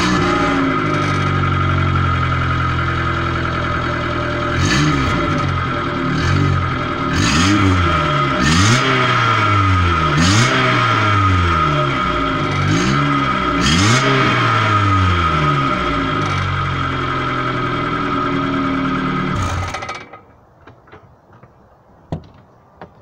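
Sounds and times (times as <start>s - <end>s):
petrol engine exhaust revving: 0.0s - 20.2s.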